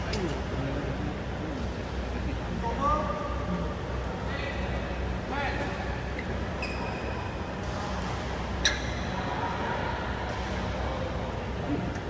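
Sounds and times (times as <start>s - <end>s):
low hum of sports hall: 0.0s - 12.0s.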